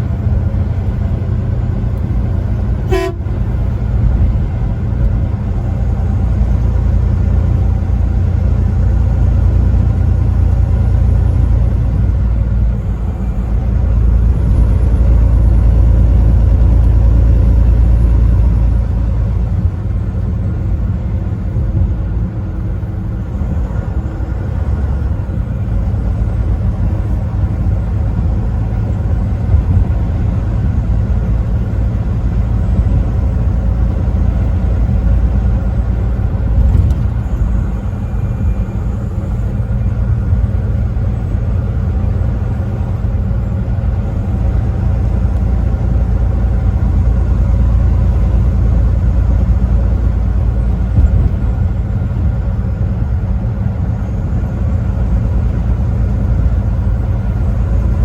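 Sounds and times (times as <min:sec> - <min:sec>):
truck engine and road rumble: 0:00.0 - 0:58.0.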